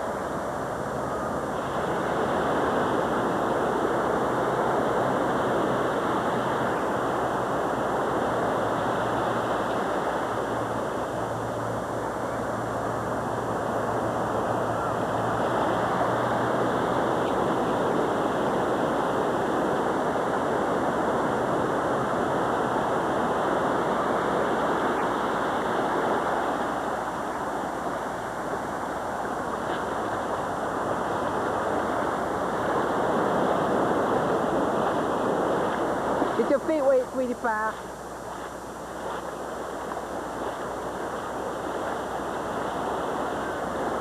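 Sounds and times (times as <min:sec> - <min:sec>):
ocean surf washing onto beach: 0:00.0 - 0:44.0.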